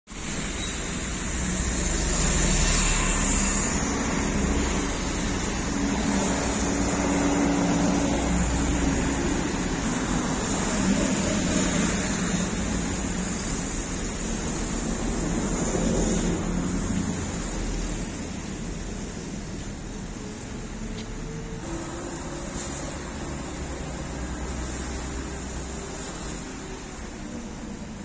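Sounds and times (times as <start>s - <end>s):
van and bus engine hum: 0.1s - 28.0s
vehicles driving on wet road: 0.1s - 28.0s.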